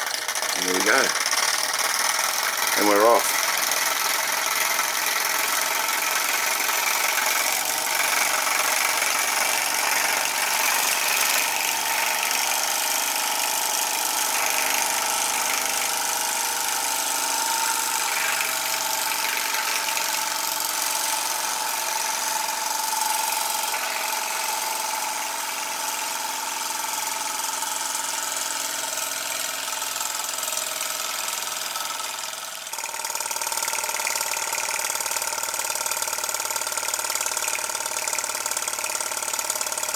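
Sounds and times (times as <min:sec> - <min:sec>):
model steam engine running: 0:00.0 - 0:39.9.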